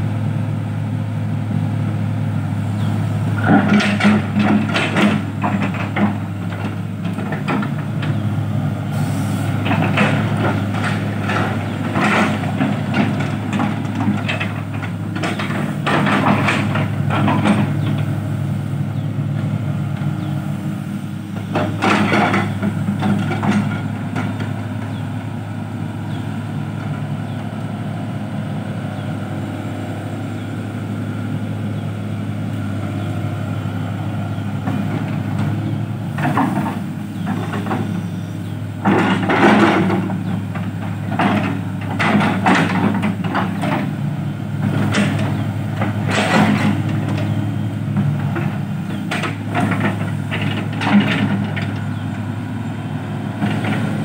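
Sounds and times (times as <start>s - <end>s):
excavator diesel engine running: 0.0s - 54.0s
excavator bucket noisy bursts: 2.8s - 25.0s, 32.6s - 54.0s.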